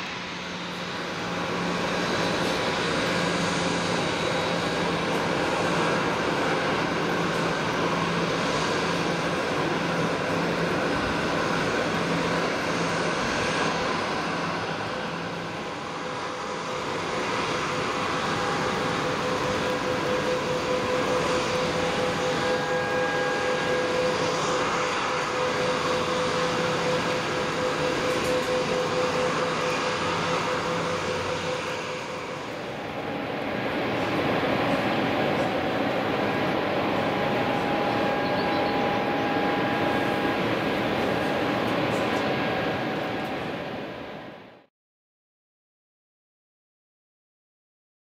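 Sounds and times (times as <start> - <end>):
jet engines idling: 0.0 - 44.7.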